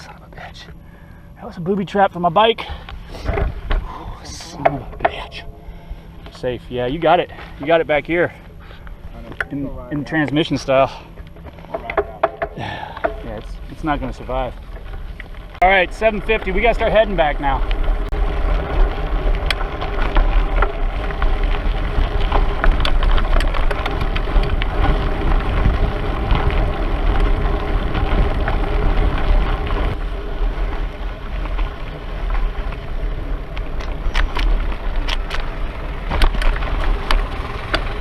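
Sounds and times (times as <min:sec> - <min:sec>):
bike rattling clicks and knocks: 0:02.6 - 0:38.0
wind rumbling on microphone: 0:02.7 - 0:08.0, 0:11.3 - 0:38.0.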